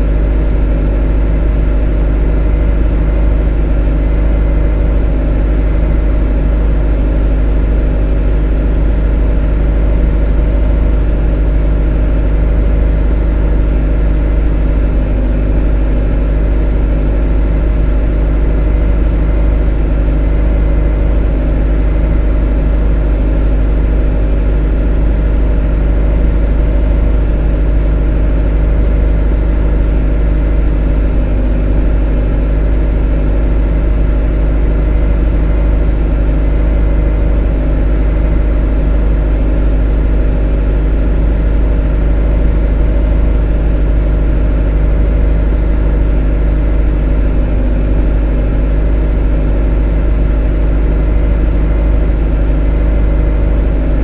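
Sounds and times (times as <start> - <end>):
motor droning: 0.0 - 54.0.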